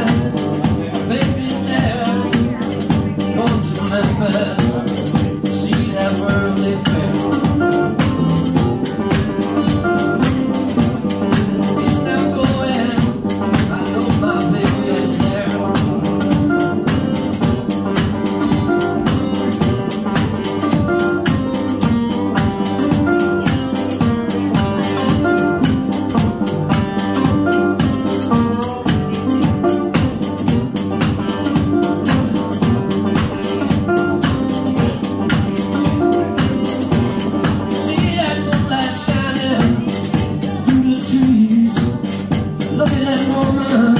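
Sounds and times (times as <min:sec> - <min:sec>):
banjo picking: 0:00.0 - 0:43.9.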